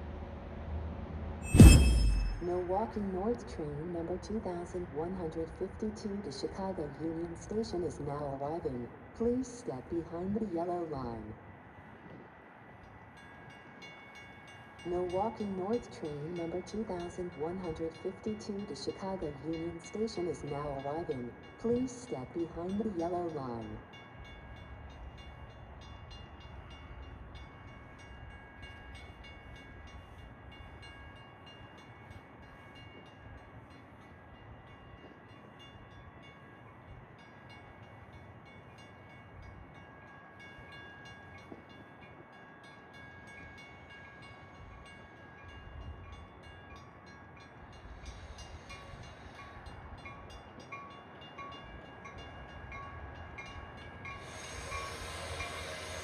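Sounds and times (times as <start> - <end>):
train rumble and hiss: 0.0 - 56.0.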